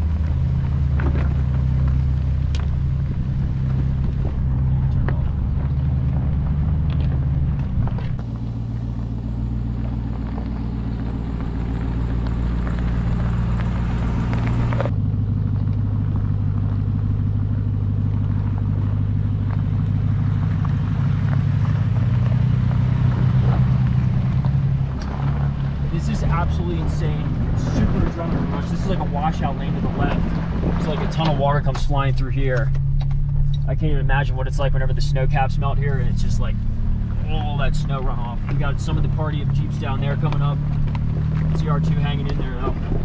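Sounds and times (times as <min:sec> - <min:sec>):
pickup truck engine low drone: 0:00.0 - 0:43.0.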